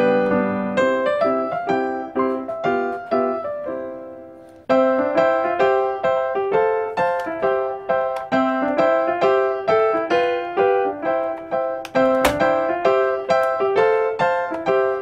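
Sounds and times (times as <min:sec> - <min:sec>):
keyboard tune: 0:00.0 - 0:15.0.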